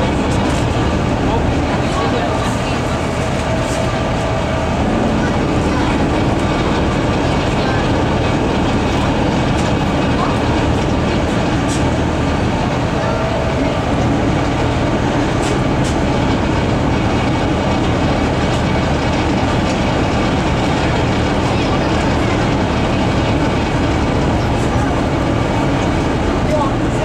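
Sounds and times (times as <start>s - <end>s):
boat diesel engine drone: 0.0s - 27.0s.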